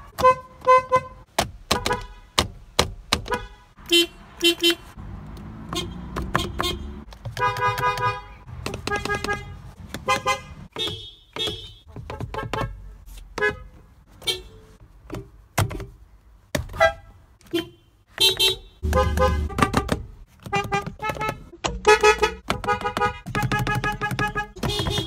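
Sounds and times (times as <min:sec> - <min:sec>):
car horns honking: 0:00.0 - 0:02.4, 0:03.2 - 0:14.8, 0:16.7 - 0:25.0.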